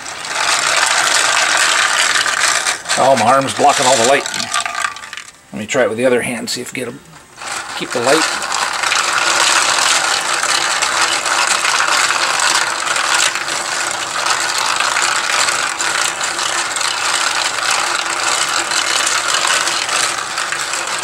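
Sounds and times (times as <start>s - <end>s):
plastic maze rattling: 0.0s - 5.4s, 7.4s - 21.0s
metal balls rolling on plastic: 0.0s - 21.0s.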